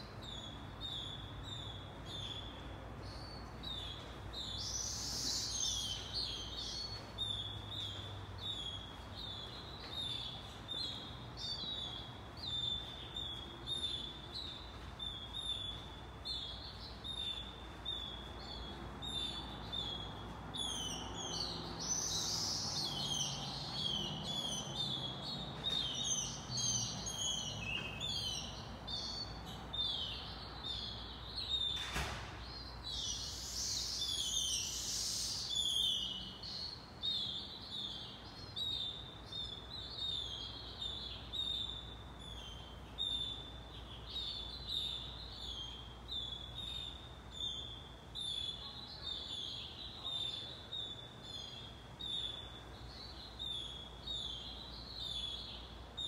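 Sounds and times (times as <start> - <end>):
bird chirps: 0.0 - 32.0, 32.6 - 56.0.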